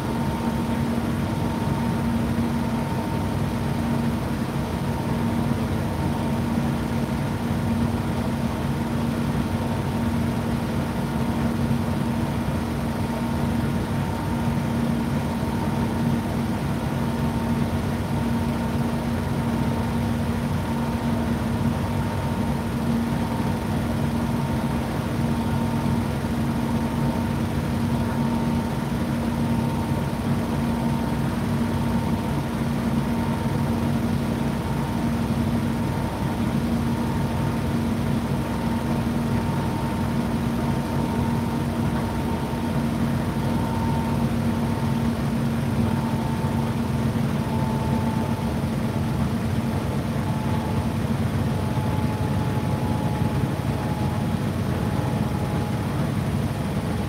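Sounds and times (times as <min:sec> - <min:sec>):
tumble dryer humming: 0:00.0 - 0:57.0.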